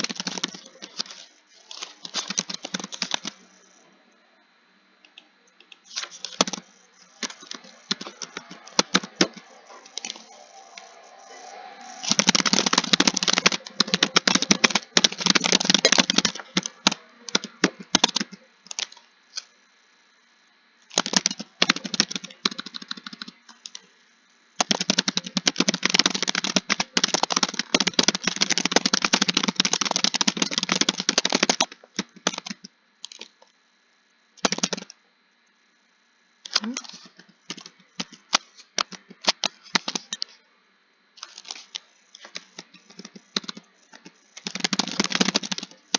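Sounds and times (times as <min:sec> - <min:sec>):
computer keyboard typing: 0:00.0 - 0:03.6, 0:05.1 - 0:19.5, 0:20.9 - 0:23.9, 0:24.6 - 0:33.3, 0:34.4 - 0:35.0, 0:36.5 - 0:40.3, 0:41.2 - 0:45.9.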